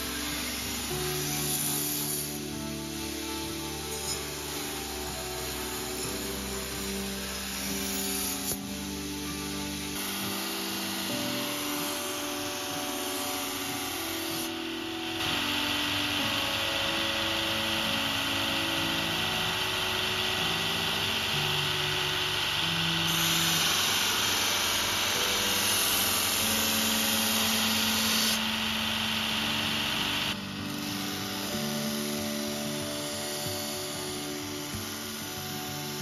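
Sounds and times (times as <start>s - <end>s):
background music: 0.0s - 36.0s
wire wheel grinding blade: 0.0s - 36.0s.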